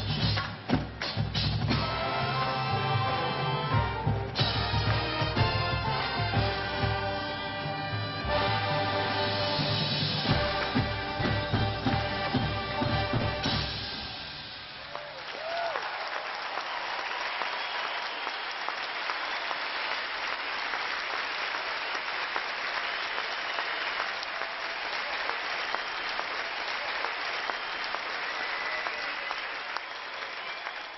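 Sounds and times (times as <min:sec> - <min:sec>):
stadium crowd applauding: 0:00.0 - 0:30.9
crowd cheering: 0:01.7 - 0:30.9.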